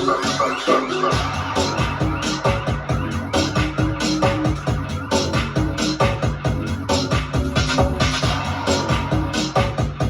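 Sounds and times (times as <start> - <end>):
electronic beat: 0.0 - 10.0
low drum and bass hits: 1.1 - 10.0.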